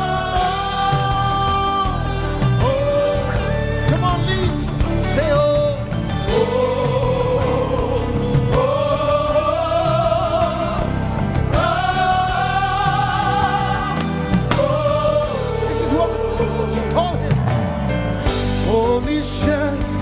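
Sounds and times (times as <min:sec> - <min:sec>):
live band playing: 0:00.0 - 0:20.0
sustained gospel singing: 0:00.0 - 0:20.0.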